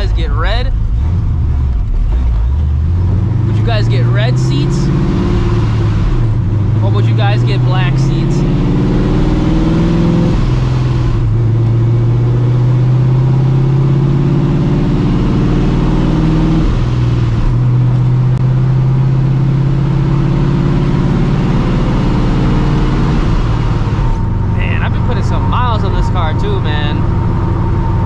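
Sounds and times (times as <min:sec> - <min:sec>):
car engine cruising: 0:00.0 - 0:28.0.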